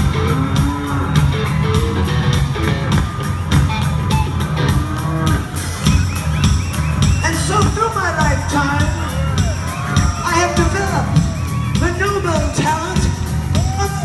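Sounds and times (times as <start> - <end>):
crowd singing and shouting: 0.0 - 14.0
live rock band playing: 0.0 - 14.0.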